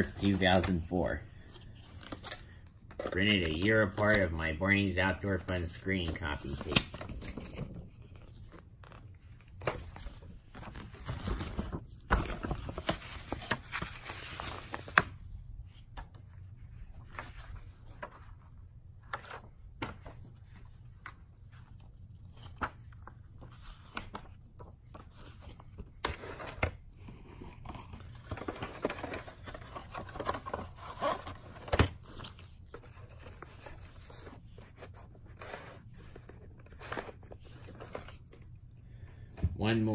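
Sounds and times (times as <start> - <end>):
paper insert rustling: 0.0 - 38.5.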